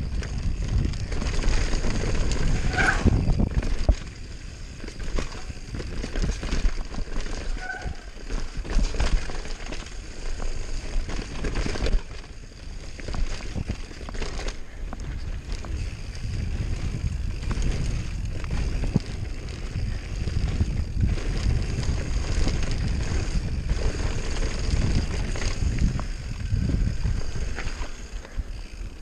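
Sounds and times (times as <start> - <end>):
bike rattling over bumps: 0.0 - 29.0
wind buffeting microphone: 0.0 - 29.0.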